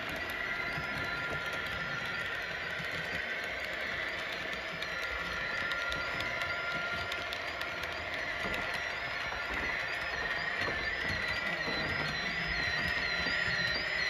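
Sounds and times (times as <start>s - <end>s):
model train hum: 0.0s - 14.0s
wheels clicking over rail joints: 0.0s - 14.0s.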